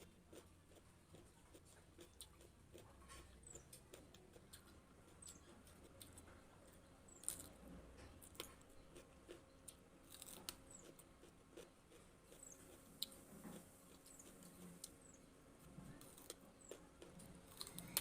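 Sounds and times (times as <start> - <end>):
chewing raw vegetables: 0.0 - 18.0.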